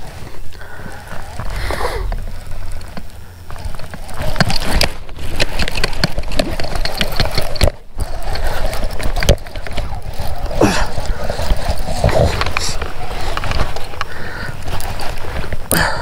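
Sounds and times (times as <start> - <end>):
fishing reel clicking and rattling: 0.0 - 16.0.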